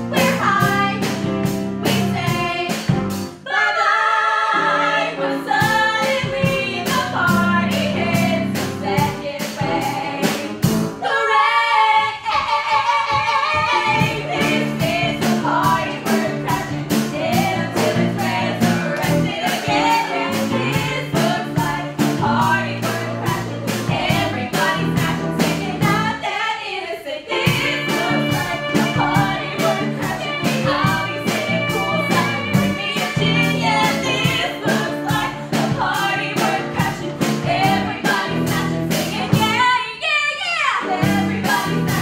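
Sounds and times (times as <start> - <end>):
band with steady beat: 0.0 - 3.4, 5.6 - 11.0, 13.6 - 26.1, 27.3 - 39.6
women singing: 0.0 - 42.0.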